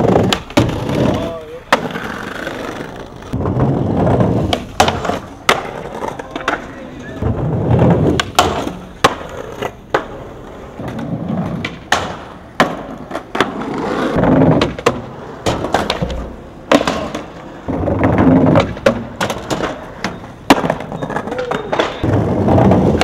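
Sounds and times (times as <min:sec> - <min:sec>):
skateboard clacks: 0:00.0 - 0:23.0
skateboard wheels rolling: 0:00.0 - 0:23.0.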